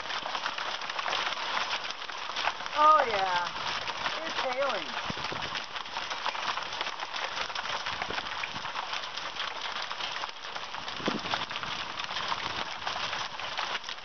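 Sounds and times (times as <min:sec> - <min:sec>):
hail and heavy rain pattering: 0:00.0 - 0:14.0.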